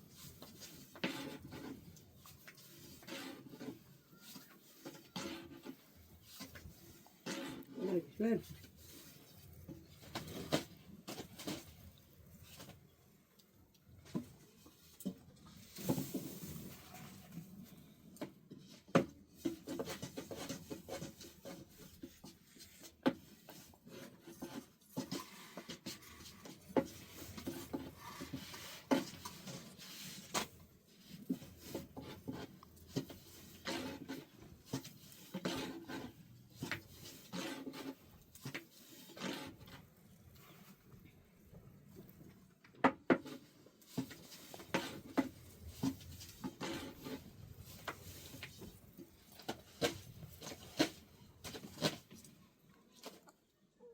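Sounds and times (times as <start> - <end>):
rubbing and scraping: 0.0 - 12.9, 13.9 - 41.4, 43.1 - 53.2.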